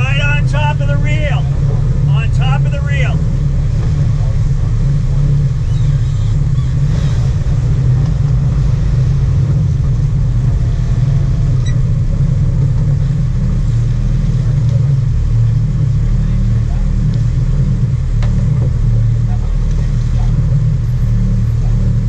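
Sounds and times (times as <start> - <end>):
boat engines rumbling: 0.0 - 22.0.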